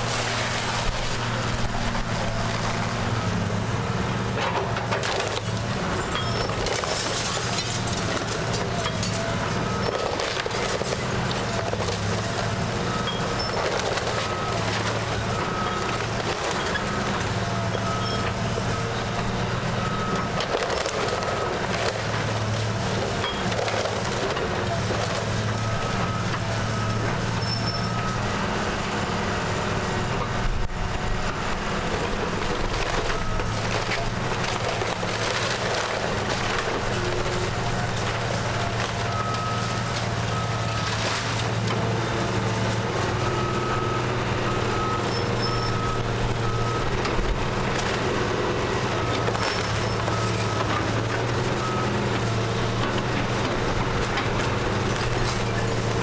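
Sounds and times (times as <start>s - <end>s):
wood splintering and cracking: 0.0s - 3.5s, 4.3s - 26.4s, 32.0s - 56.0s
heavy machine engine running: 0.0s - 56.0s.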